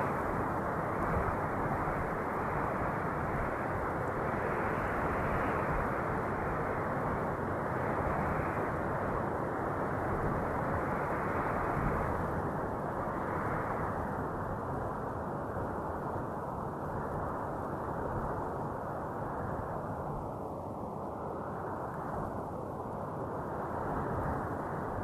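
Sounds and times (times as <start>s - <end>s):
wind noise hiss: 0.0s - 25.0s.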